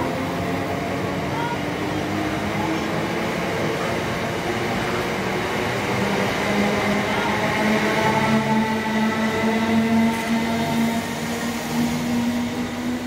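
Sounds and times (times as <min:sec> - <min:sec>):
multi-tone train hum: 0:00.0 - 0:13.0
train rumbling past: 0:00.0 - 0:13.0.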